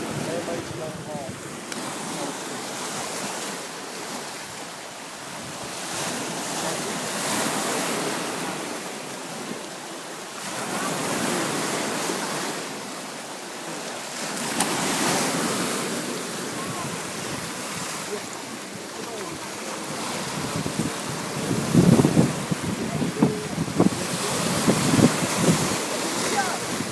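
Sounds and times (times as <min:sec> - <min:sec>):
sea waves washing onto beach: 0:00.0 - 0:26.9.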